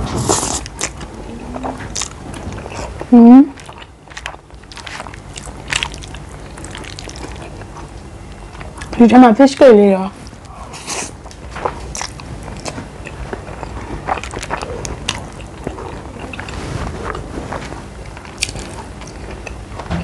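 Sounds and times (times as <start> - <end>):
person chewing food: 0.2 - 9.0, 10.2 - 19.9.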